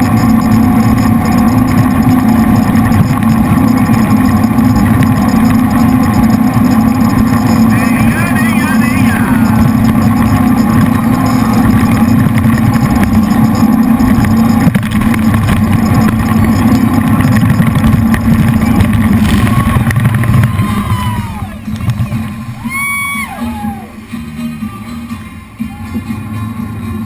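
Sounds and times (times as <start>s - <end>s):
boat engines droning: 0.0s - 27.0s.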